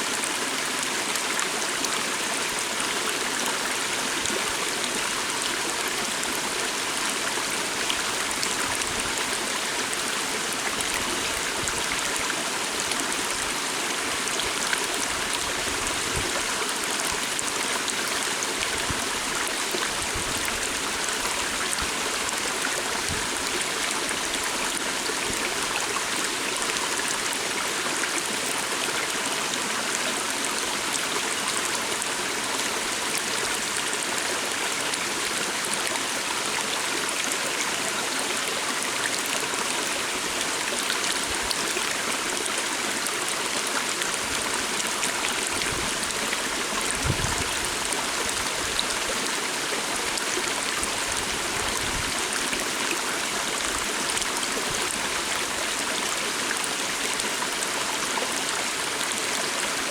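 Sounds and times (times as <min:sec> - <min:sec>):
stream water babbling: 0:00.0 - 0:59.9.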